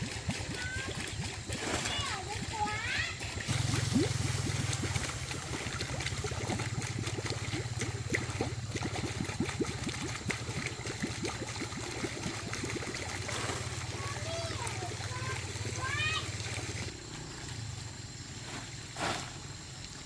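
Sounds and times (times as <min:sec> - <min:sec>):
water gurgling and bubbling: 0:00.0 - 0:17.0
steady low hum: 0:00.0 - 0:20.0.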